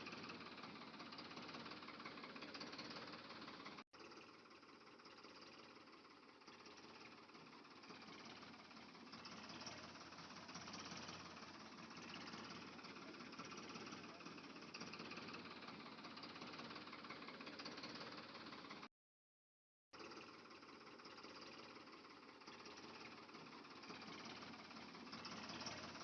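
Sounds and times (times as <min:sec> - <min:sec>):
small motor running: 0:00.0 - 0:18.9, 0:20.0 - 0:26.0.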